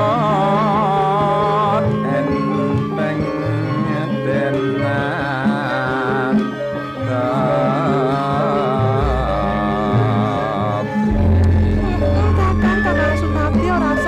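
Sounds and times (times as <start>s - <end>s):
high wavering melody line: 0.0s - 14.0s
low metallophone tones: 0.0s - 14.0s.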